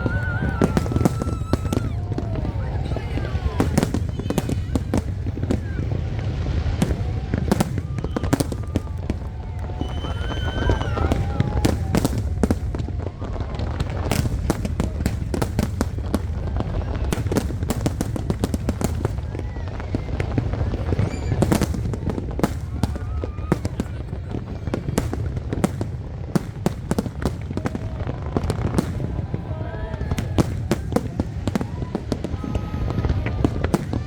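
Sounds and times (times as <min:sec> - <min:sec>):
faint crowd voices: 0:00.0 - 0:34.0
fireworks bangs and crackles: 0:00.0 - 0:34.0.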